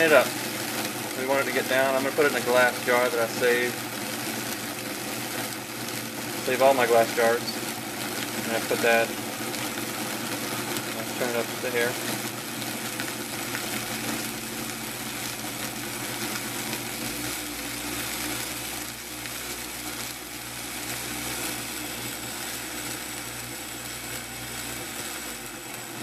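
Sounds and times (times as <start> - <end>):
blender motor whirring: 0.0 - 26.0.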